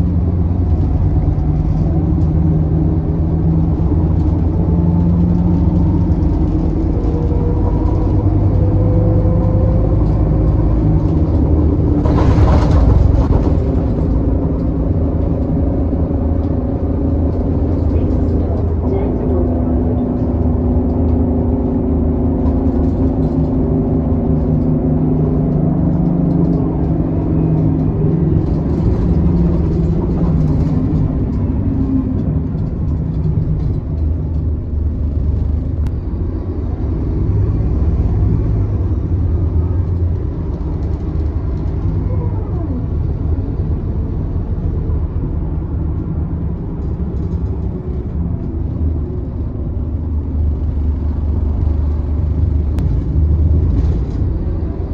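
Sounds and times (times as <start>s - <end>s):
bus diesel engine running: 0.0s - 54.9s
road noise: 0.0s - 54.9s.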